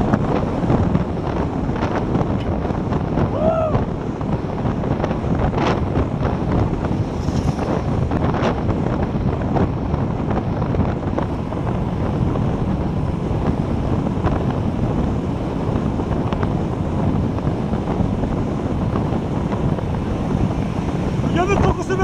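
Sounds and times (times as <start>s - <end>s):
bike tyres rolling on asphalt: 0.0s - 22.0s
wind buffeting microphone: 0.0s - 22.0s.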